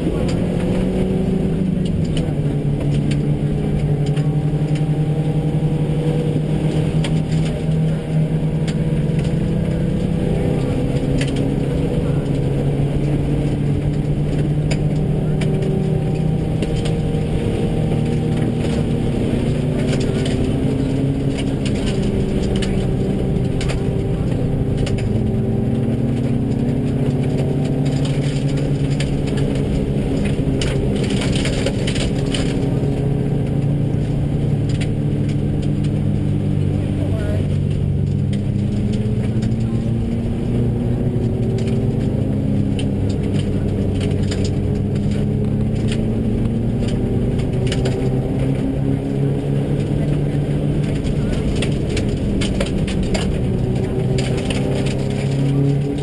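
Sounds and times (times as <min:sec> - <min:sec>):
rally car engine at speed: 0:00.0 - 0:56.0.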